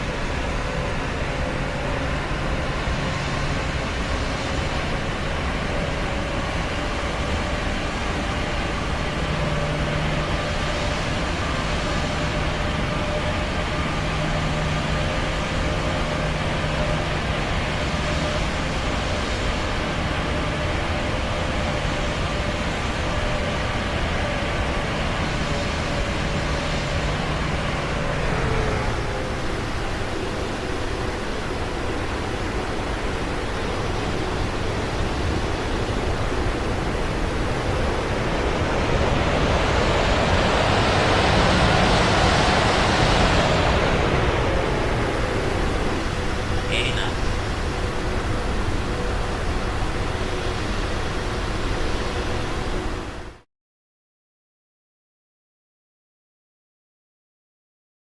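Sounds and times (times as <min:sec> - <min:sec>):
airliner cabin roar: 0:00.0 - 0:53.4.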